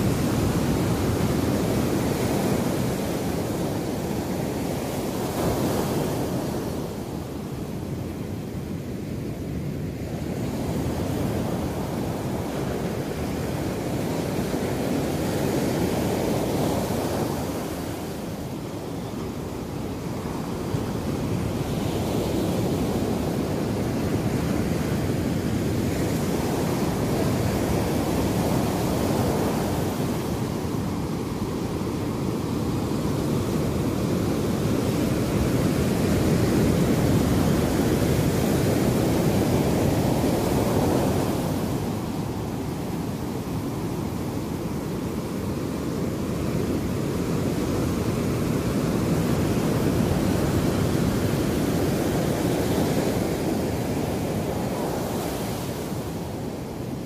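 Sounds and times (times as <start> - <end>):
ocean waves washing up beach: 0.0 - 57.0.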